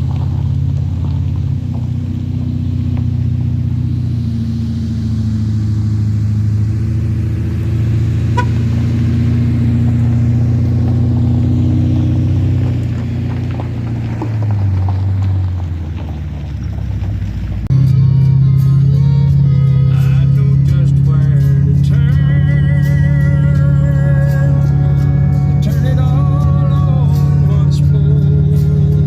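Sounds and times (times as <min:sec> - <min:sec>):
vehicle engine droning: 0:00.0 - 0:29.0.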